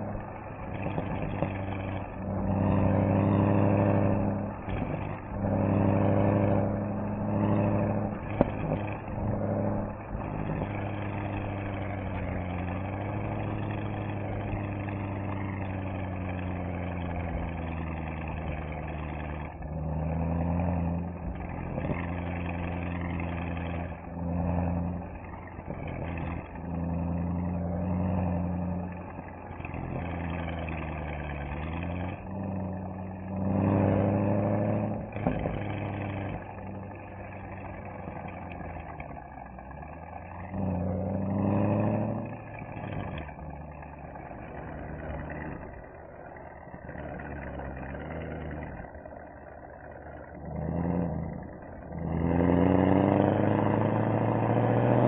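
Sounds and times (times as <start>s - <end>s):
car engine and exhaust driving: 0.0s - 55.0s.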